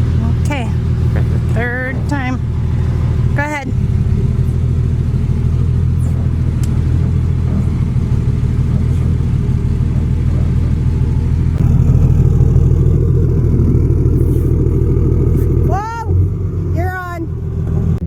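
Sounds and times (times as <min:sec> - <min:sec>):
diesel truck engine at low revs: 0:00.0 - 0:18.0.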